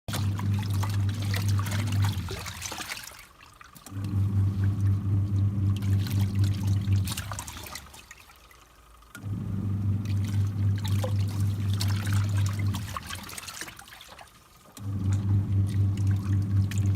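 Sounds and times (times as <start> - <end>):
washing machine motor humming: 0.0 - 16.9
washing machine water churning: 0.0 - 16.9.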